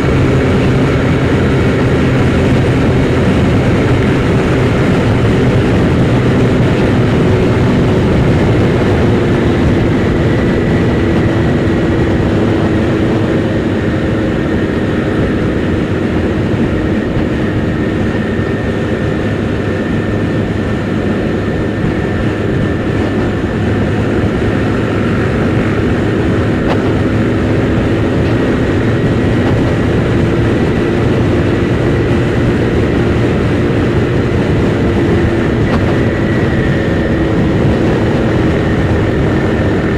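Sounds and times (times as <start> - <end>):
scooter engine running: 0.0 - 39.9
wind rush over helmet: 0.0 - 39.9.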